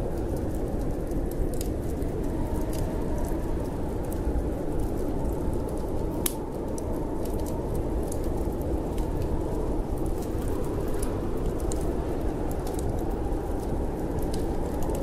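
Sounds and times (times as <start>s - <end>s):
storm wind rumble: 0.0s - 15.0s
wood fire crackling and popping: 0.0s - 15.0s.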